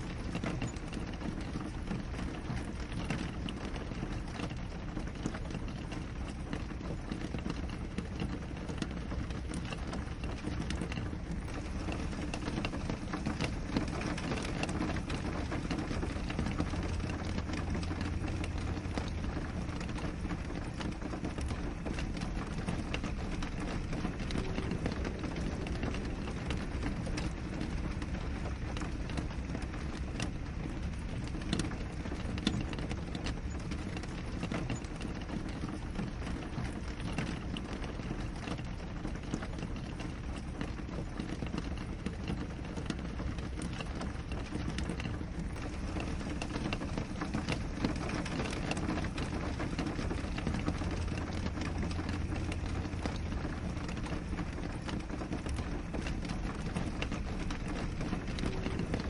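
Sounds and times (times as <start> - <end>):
rain on window: 0.0 - 59.0.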